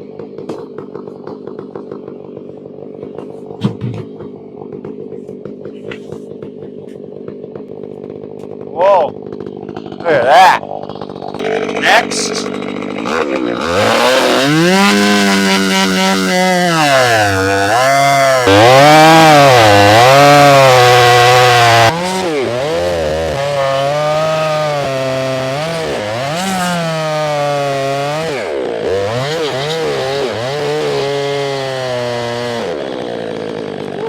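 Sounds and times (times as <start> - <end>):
chainsaw cutting log: 0.0 - 34.0.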